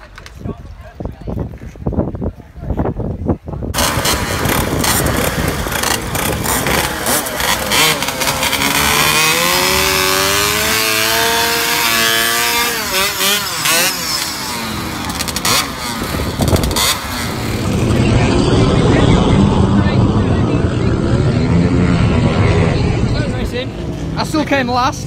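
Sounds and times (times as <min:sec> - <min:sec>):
small motorcycle engines revving: 0:03.7 - 0:24.4.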